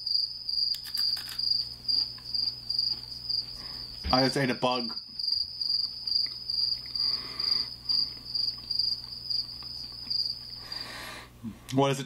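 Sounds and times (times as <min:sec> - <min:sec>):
cricket chirping: 0:00.0 - 0:11.1.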